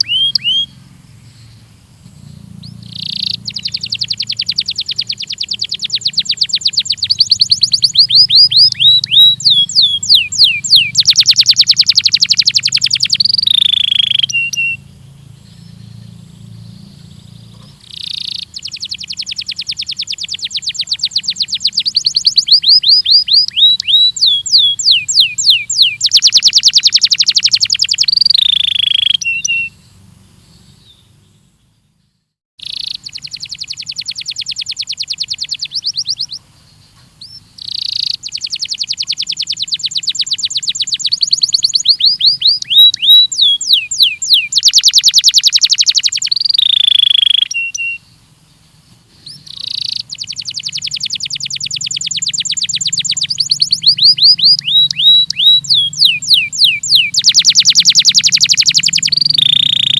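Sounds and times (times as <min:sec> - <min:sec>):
canary singing rapid trills: 0:00.0 - 0:32.0, 0:32.6 - 0:59.9.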